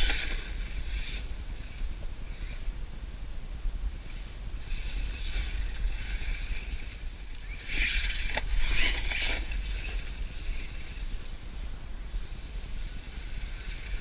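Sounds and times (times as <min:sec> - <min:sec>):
toy truck electric motor whining: 0:00.0 - 0:02.6, 0:04.1 - 0:11.3, 0:12.2 - 0:14.0.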